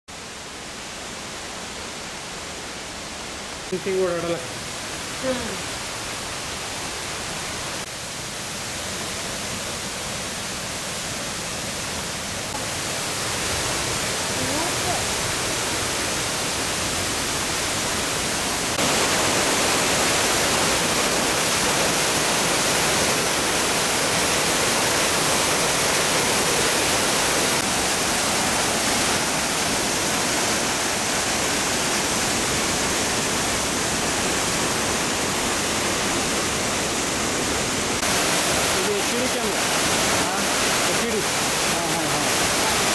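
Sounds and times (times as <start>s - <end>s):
waterfall rushing: 0.1s - 42.9s.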